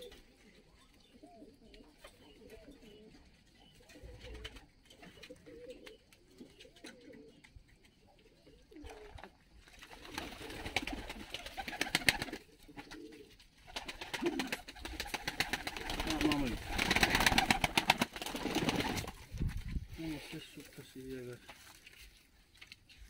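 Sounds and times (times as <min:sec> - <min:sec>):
pigeons cooing softly: 0:00.0 - 0:23.0.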